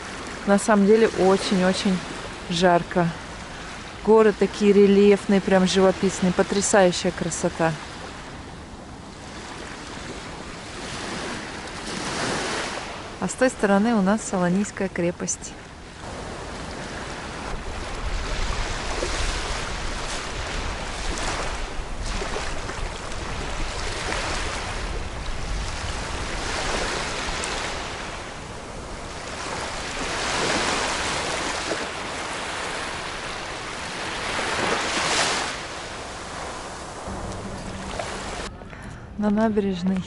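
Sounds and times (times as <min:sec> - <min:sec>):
small waves washing on sand: 0:00.0 - 0:38.5.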